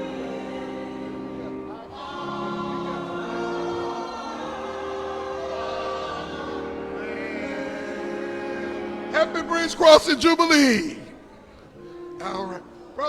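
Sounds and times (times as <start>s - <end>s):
choir singing gospel: 0.0s - 13.0s.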